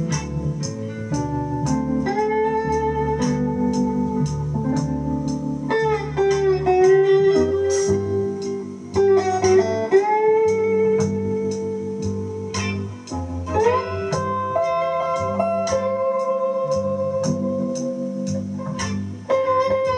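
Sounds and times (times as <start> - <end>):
low bass figure: 0.0 - 19.9
slide electric guitar blues: 0.0 - 19.9.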